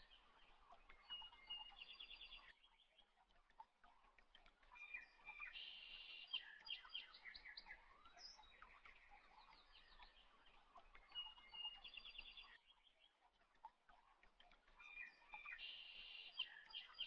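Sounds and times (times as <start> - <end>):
faint bird chirps and trills: 0.0 - 17.0.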